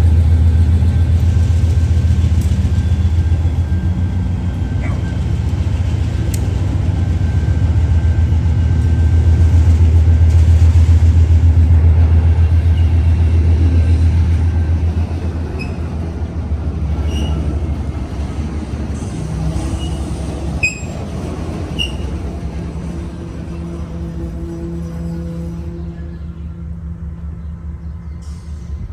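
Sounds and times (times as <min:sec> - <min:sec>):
diesel locomotive engine rumble: 0:00.0 - 0:28.9
train wheel squeaks: 0:01.4 - 0:26.4.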